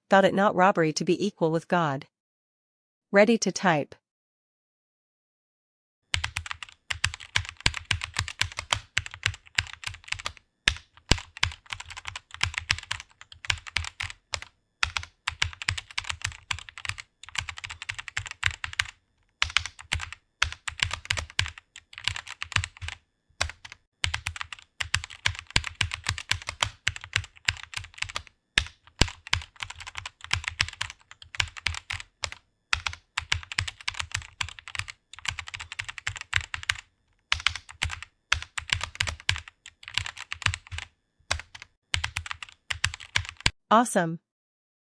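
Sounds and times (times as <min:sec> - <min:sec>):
fast typing on keyboard: 0:06.1 - 0:43.6.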